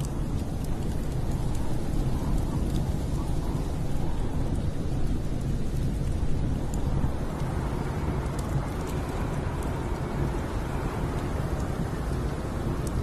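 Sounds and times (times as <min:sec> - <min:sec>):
log fire crackling: 0:00.0 - 0:13.0
storm rumble with hiss: 0:00.0 - 0:13.0.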